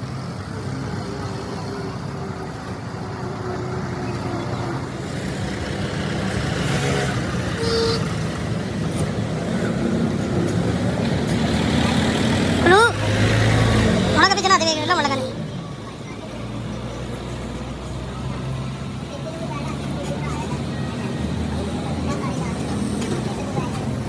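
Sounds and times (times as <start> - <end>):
vehicle engine and road traffic: 0.0 - 24.0.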